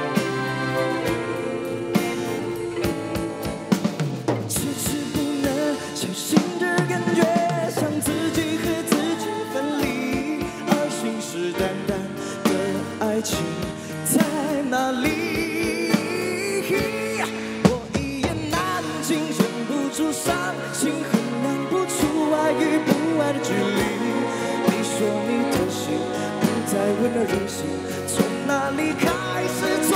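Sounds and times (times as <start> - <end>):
live band playing: 0.0 - 29.9
man singing into microphone: 4.5 - 29.9.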